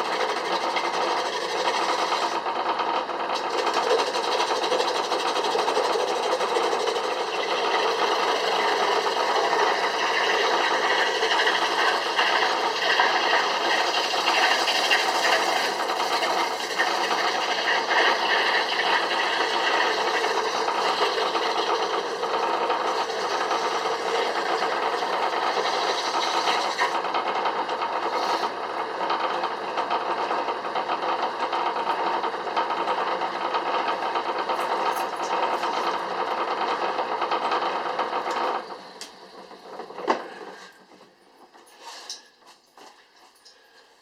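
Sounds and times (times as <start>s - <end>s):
turning tool scraping wood: 0.0s - 28.6s, 31.6s - 39.0s
wood lathe running: 0.0s - 41.0s.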